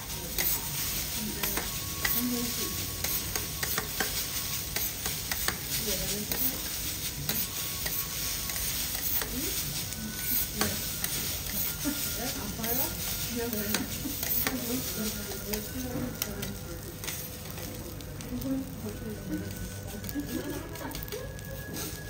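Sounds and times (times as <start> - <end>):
metal spatulas scraping: 0.0 - 17.8
rice sizzling on a griddle: 0.0 - 22.0
spatula blades clicking on hot plate: 0.3 - 17.8, 20.1 - 21.1.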